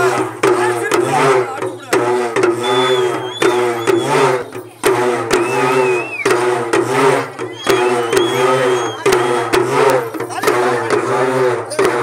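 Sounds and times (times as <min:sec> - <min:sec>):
drum stick strokes: 0:00.0 - 0:12.0
groaning bending drum tone: 0:00.0 - 0:12.0.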